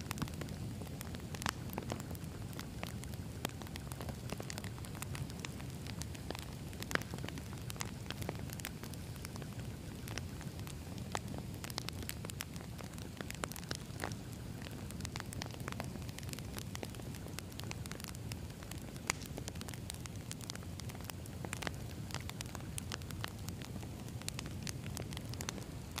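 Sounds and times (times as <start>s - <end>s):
campfire crackling and popping: 0.0s - 26.0s
low rumble of flames: 0.0s - 26.0s.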